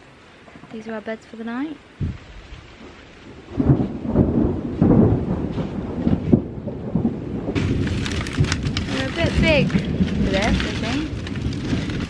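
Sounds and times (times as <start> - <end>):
rain: 0.0 - 12.0
thunder rumbling: 0.0 - 12.0.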